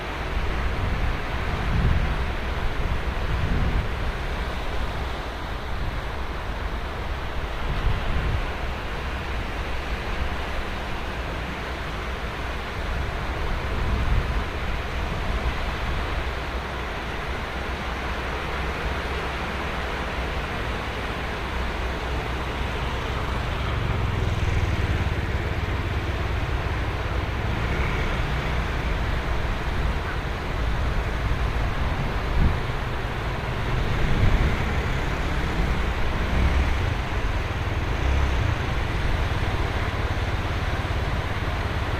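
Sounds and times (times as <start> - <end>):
ocean surf on beach: 0.0 - 41.9.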